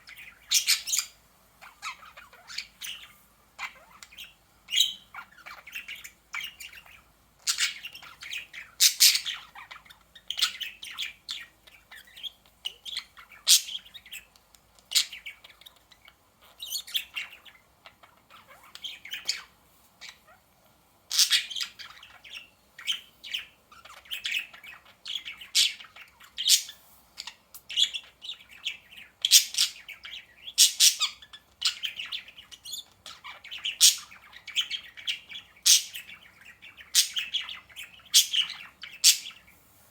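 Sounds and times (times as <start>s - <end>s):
budgerigars chirping: 0.0s - 20.4s, 21.1s - 39.6s.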